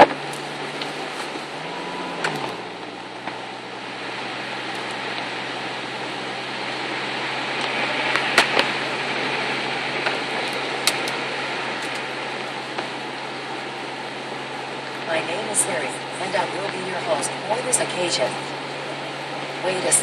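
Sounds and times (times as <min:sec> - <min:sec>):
low engine hum: 0:00.0 - 0:20.0
road noise: 0:00.0 - 0:20.0.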